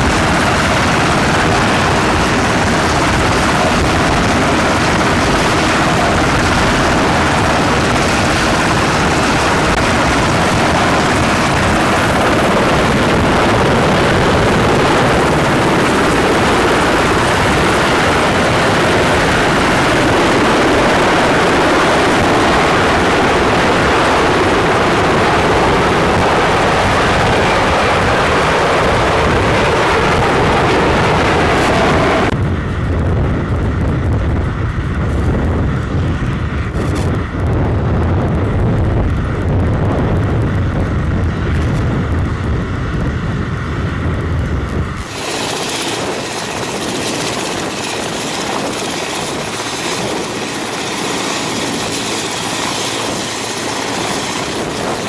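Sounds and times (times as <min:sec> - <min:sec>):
helicopter rotor and engine noise: 0:00.0 - 0:55.0
helicopter turbine whine: 0:00.0 - 0:55.0
low helicopter rumble: 0:00.0 - 0:55.0.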